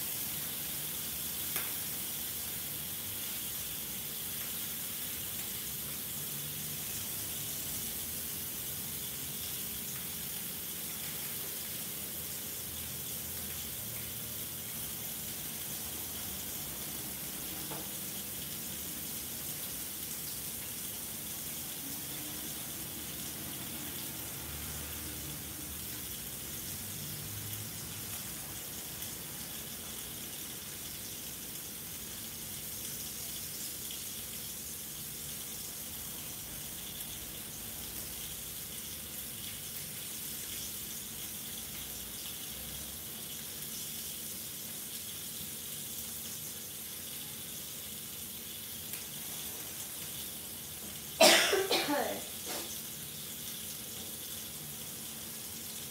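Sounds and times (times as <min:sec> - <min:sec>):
fish sizzling in a skillet: 0:00.0 - 0:55.9.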